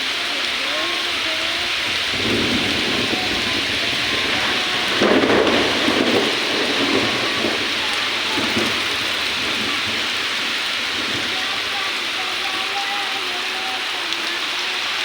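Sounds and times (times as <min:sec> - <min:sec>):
thunder rumbling: 0:00.0 - 0:14.2
heavy rain pouring: 0:00.0 - 0:15.0.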